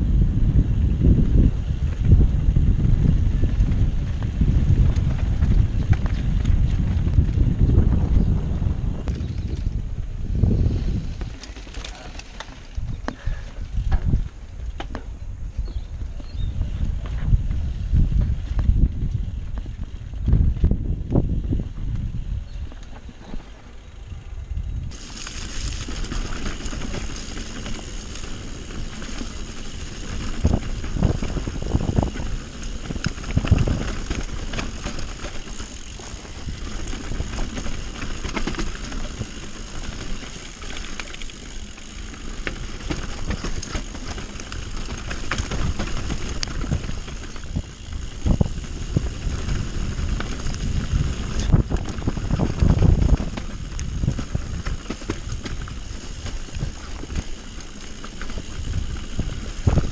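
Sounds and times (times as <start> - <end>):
bike tyres rolling on dirt: 0.0 - 59.9
bike rattling and knocking: 1.0 - 15.1, 24.9 - 59.9.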